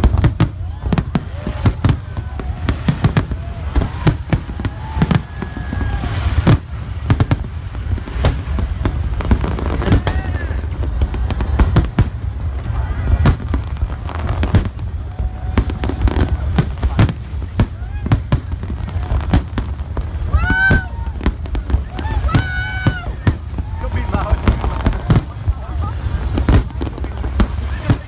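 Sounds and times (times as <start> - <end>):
fireworks bangs and cracks: 0.0 - 28.0
low rumble: 0.0 - 28.0.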